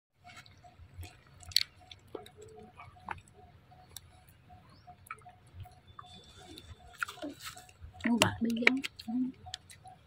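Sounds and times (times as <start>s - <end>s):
monkey chewing wetly: 0.2s - 10.0s.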